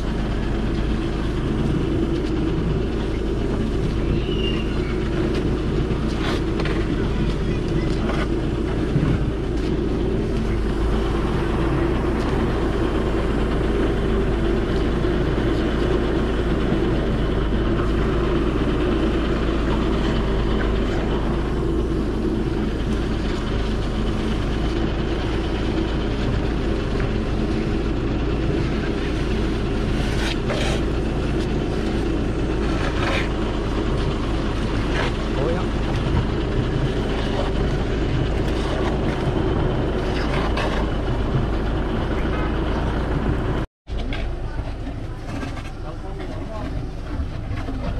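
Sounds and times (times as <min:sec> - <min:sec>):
truck engine running pump: 0:00.0 - 0:47.9.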